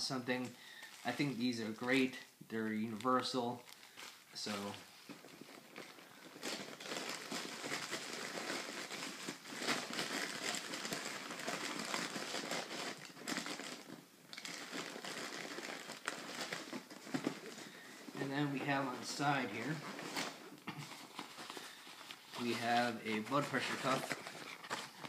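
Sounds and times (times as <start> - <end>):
plastic bags crinkling and rustling: 0.0 - 2.2, 2.8 - 25.0.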